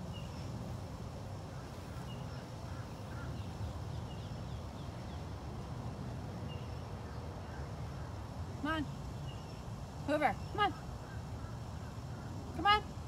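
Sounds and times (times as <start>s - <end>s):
small birds chirping: 0.0s - 0.6s, 1.4s - 13.0s.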